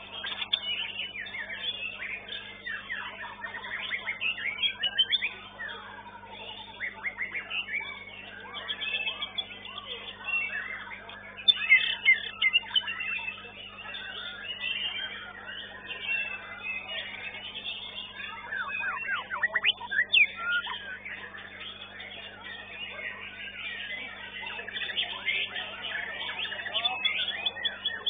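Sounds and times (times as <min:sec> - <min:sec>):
birds singing: 0:00.0 - 0:28.0.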